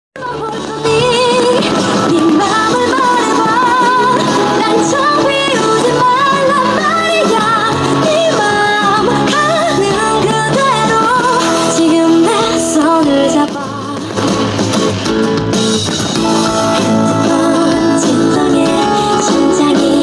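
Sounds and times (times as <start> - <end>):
pop instrumental backing: 0.2 - 20.0.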